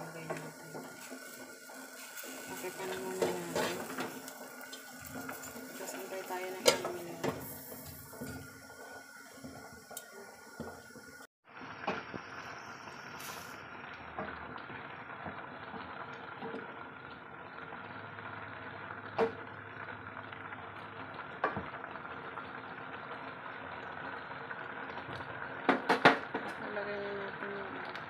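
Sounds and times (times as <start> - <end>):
sauce boiling in a pot: 0.0 - 28.0.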